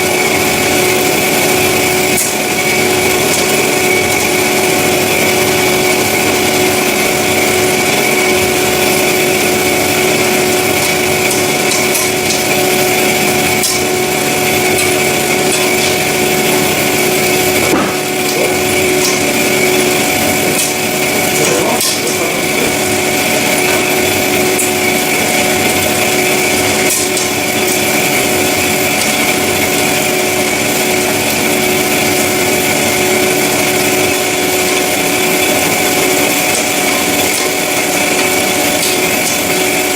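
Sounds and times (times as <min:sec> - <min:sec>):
band saw cutting metal: 0:00.0 - 0:39.9.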